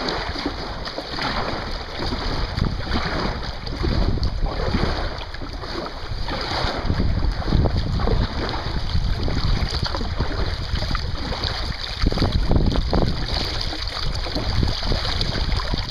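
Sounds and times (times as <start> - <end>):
paddle splashing and dripping: 0.0 - 15.9
wind buffeting microphone: 0.0 - 15.9.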